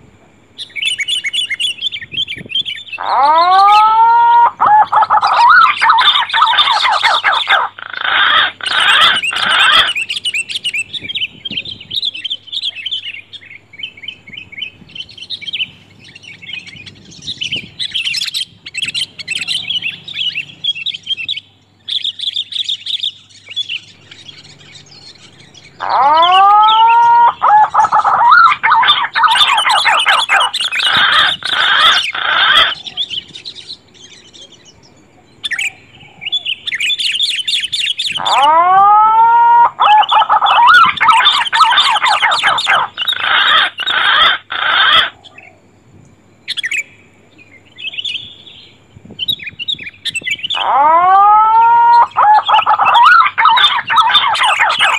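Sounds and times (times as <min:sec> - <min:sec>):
birds chirping and whistling: 0:00.6 - 0:45.6, 0:46.4 - 0:54.9.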